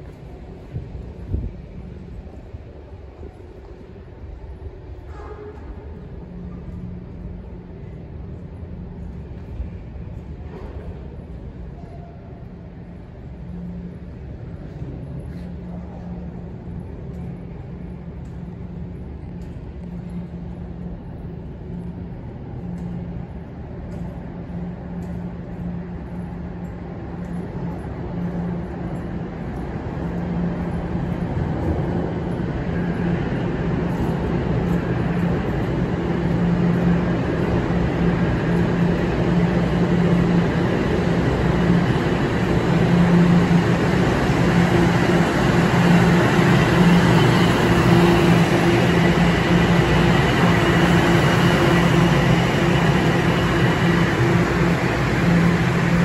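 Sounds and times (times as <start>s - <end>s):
subway train rumbling: 0.0s - 56.0s
steady low hum: 5.8s - 56.0s.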